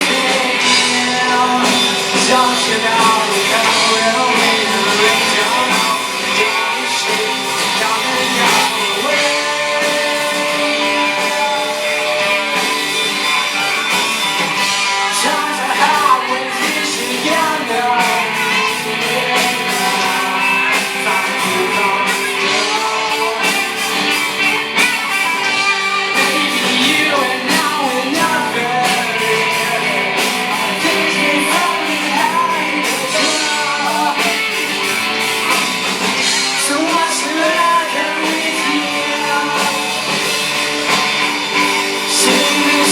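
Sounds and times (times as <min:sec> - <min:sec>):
rock music with singer: 0:00.0 - 0:42.9.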